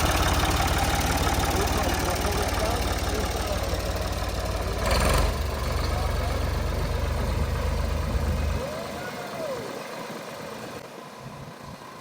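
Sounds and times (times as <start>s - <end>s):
tractor engine idling: 0.0s - 10.9s.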